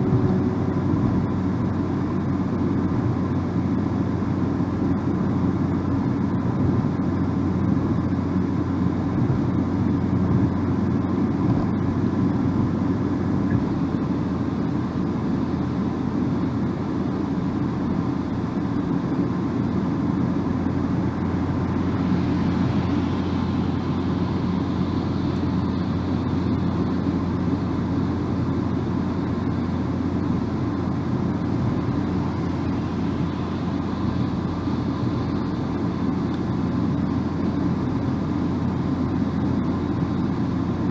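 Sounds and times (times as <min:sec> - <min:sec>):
car road noise inside cabin: 0:00.0 - 0:40.9.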